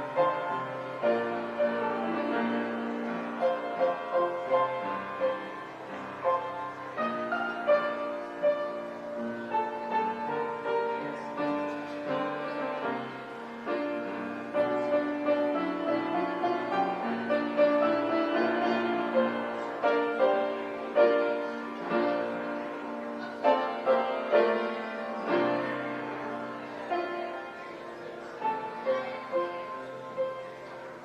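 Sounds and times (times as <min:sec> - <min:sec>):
piano melody: 0:00.0 - 0:31.0.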